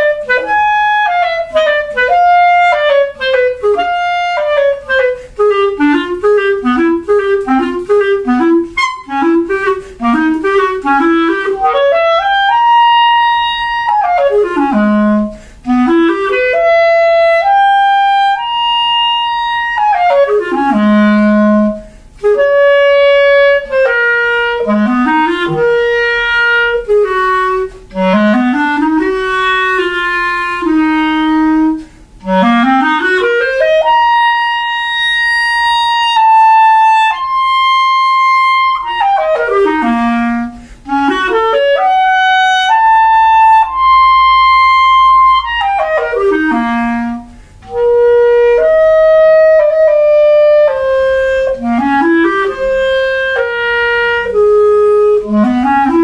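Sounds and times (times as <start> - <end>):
solo clarinet: 0.0 - 56.0.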